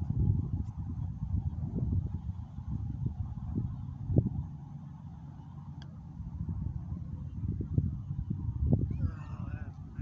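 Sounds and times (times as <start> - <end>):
wind buffeting microphone: 0.0 - 4.9, 6.0 - 10.0.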